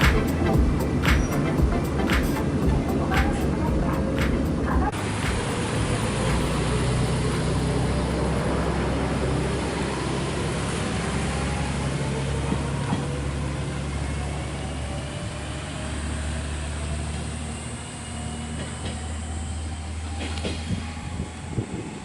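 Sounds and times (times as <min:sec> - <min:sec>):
railcar engine drone: 0:00.0 - 0:22.0.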